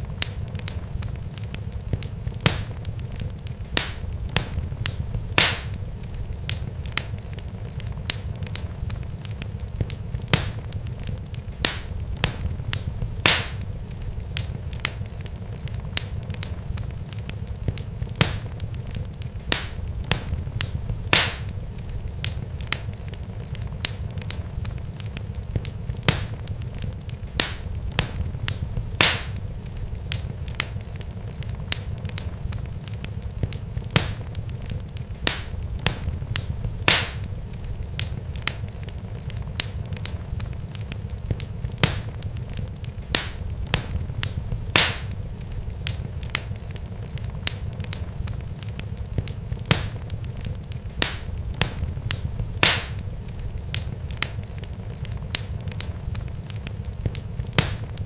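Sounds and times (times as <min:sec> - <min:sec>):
sharp pops and crackles: 0:00.0 - 0:58.0.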